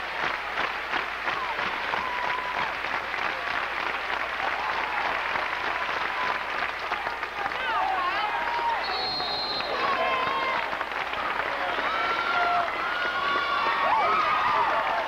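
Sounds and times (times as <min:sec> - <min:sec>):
crowd clapping and cheering: 0:00.0 - 0:15.0.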